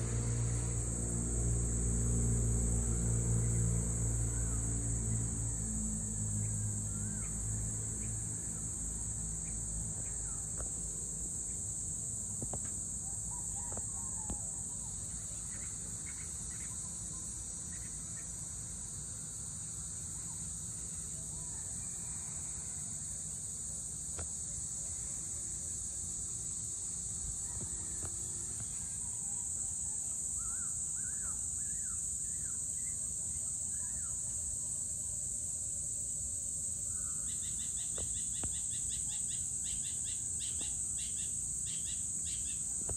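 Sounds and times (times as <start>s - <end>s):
insects chirping chorus: 0.0s - 42.9s.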